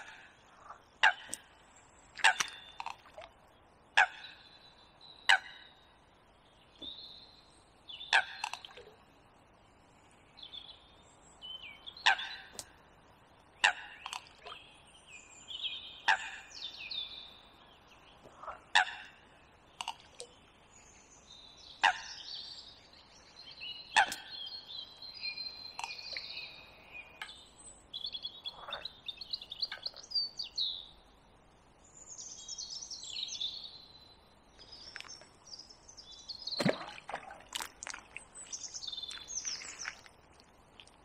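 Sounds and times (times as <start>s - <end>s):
songbirds singing: 0.0s - 41.0s.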